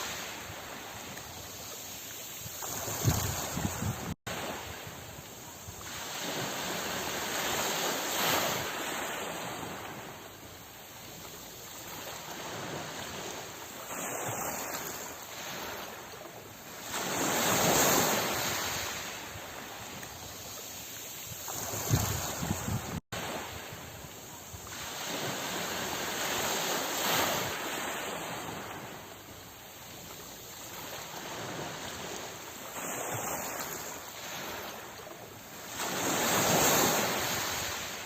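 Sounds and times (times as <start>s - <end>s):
sea waves breaking on shore: 0.0s - 38.0s.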